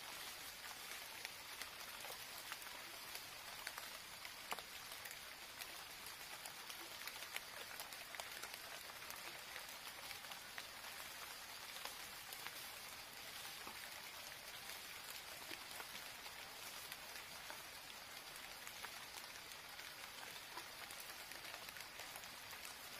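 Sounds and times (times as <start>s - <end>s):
faint steady hiss: 0.0s - 22.9s
small ticks and crackles: 0.0s - 22.9s.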